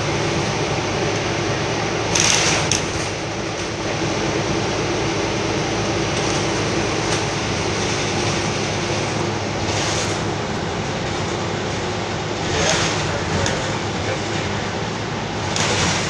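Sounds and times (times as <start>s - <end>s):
bus drivetrain and road drone: 0.0s - 16.0s.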